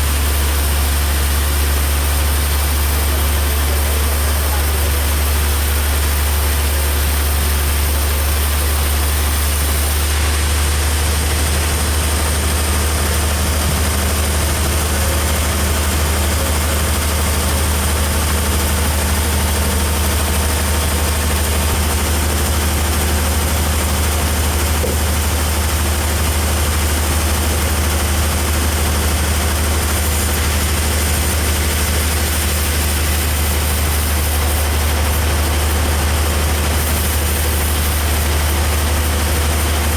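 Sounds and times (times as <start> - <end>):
heavy engine droning: 0.0 - 39.9.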